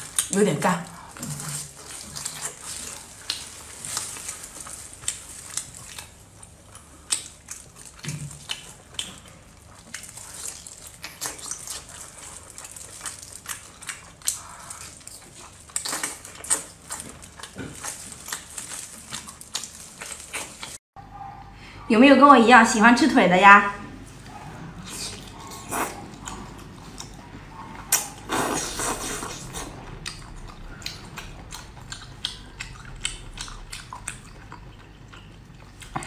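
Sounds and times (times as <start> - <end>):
wet chewing smacks and squelches: 0.0 - 20.8, 24.1 - 36.0.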